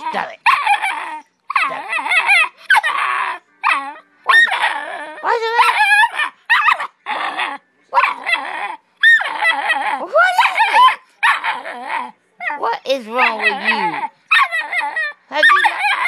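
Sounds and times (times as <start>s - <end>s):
puppy barking: 0.0s - 16.0s
puppy grumbling: 0.0s - 16.0s.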